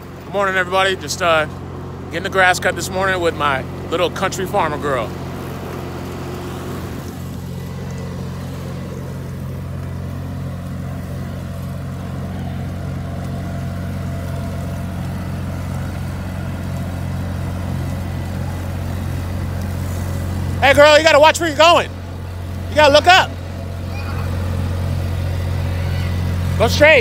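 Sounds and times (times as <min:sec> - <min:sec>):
riding lawn mower engine: 0:00.0 - 0:27.0.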